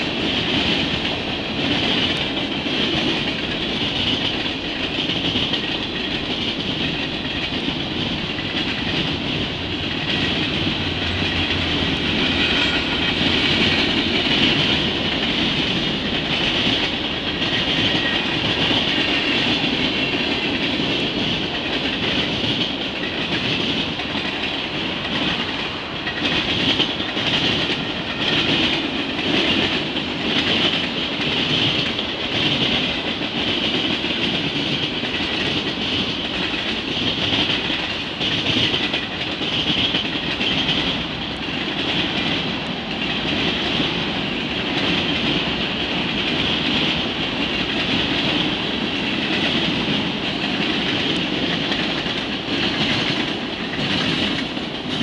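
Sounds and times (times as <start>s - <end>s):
clacking over rail joints: 0.0s - 55.0s
train wheels rumbling on rail: 0.0s - 55.0s.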